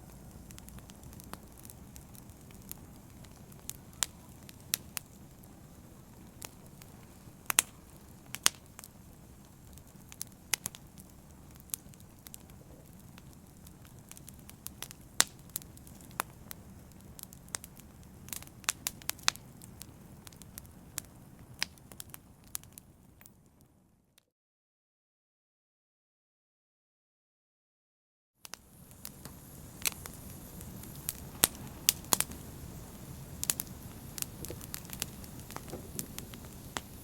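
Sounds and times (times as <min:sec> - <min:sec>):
low rush of flames: 0:00.0 - 0:23.3, 0:28.5 - 0:37.0
wood fire crackling: 0:00.0 - 0:23.7, 0:28.4 - 0:37.0.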